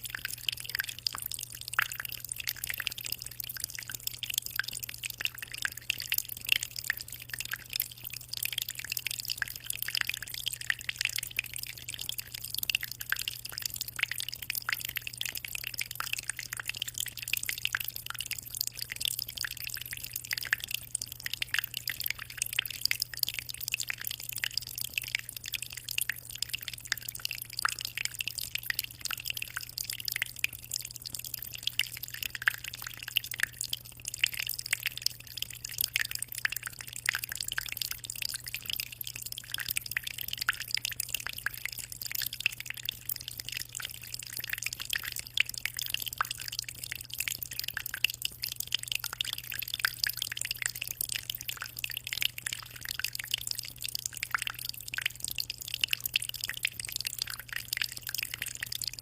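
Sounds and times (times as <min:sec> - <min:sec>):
aquarium water trickling: 0:00.0 - 0:59.0.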